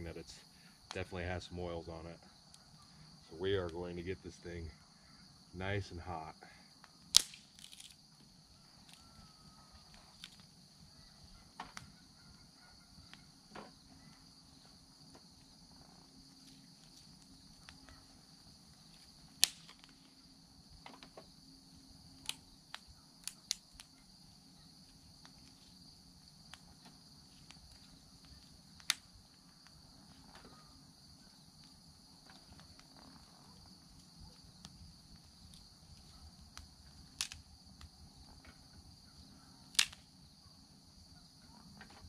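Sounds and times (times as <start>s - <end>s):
fire crackling: 0.0s - 41.1s.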